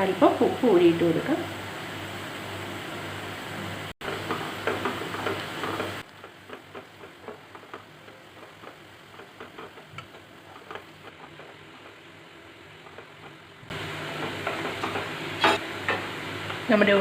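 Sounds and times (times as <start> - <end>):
onions frying in oil: 0.0 - 17.0.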